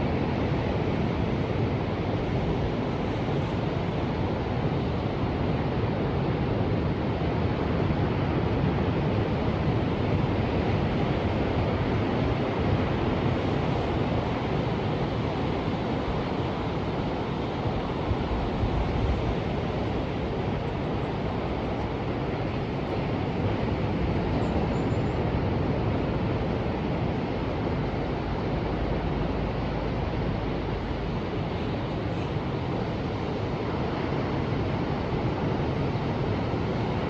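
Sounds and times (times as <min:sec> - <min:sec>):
ocean waves and surf: 0:00.0 - 0:37.0.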